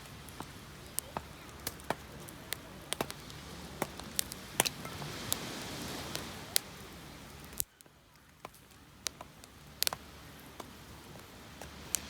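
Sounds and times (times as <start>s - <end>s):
campfire crackling: 0.0s - 12.0s
steady hiss: 0.0s - 12.0s.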